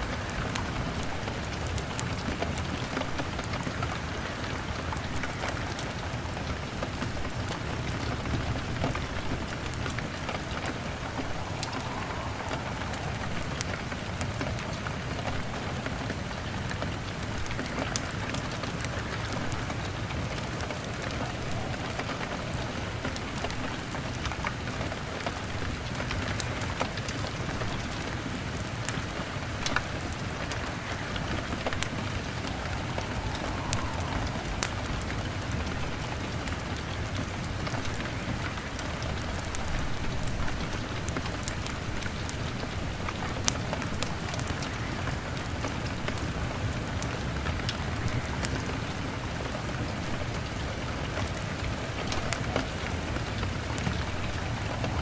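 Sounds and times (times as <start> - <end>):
rain pattering on window glass: 0.0 - 55.0
wood fire crackling: 0.0 - 55.0.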